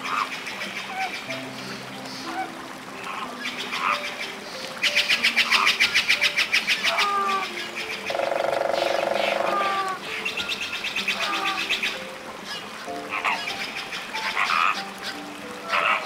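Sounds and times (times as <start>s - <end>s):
flamingos honking: 0.0s - 16.0s
soft background music: 0.0s - 16.0s.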